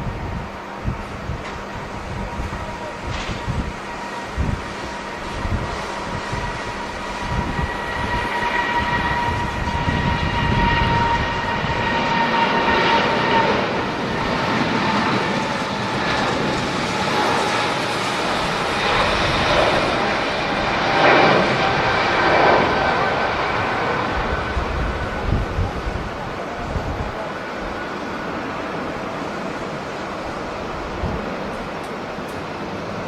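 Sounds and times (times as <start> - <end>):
jet engine roar with whine: 0.0 - 33.0.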